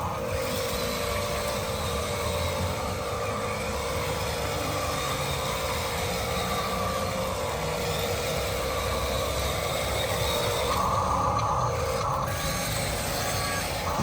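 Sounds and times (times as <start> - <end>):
toy vehicle motors droning: 0.0 - 14.0.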